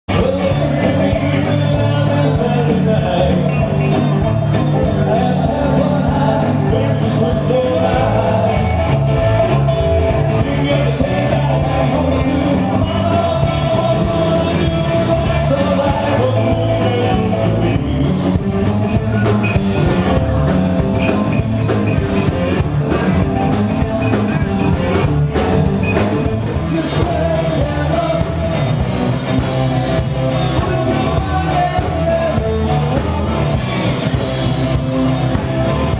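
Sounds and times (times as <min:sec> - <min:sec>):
rock song with singer: 0:00.0 - 0:35.9.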